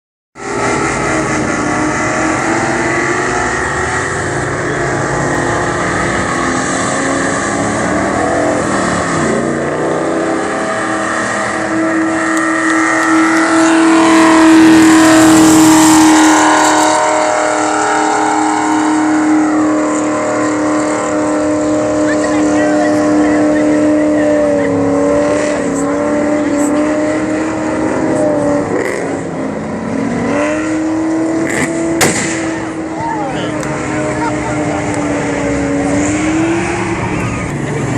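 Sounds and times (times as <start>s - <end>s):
car engine revving high: 0.4s - 37.9s.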